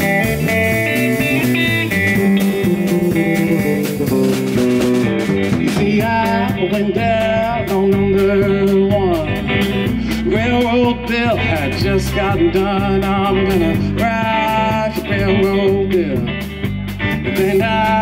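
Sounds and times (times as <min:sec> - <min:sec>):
drum kit beat: 0:00.0 - 0:18.0
electric bass: 0:00.0 - 0:18.0
electric guitar: 0:00.0 - 0:18.0.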